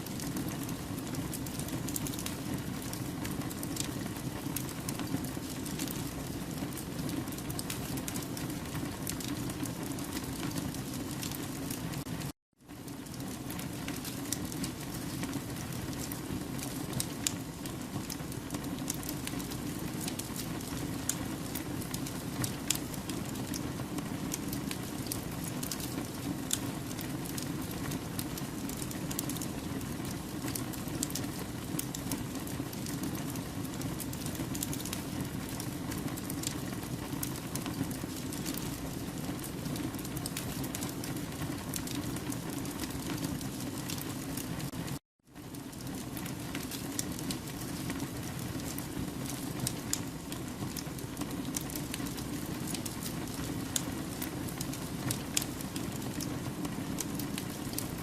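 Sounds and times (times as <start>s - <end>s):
campfire flames rushing: 0.0s - 58.0s
fire crackling and popping: 0.0s - 58.0s.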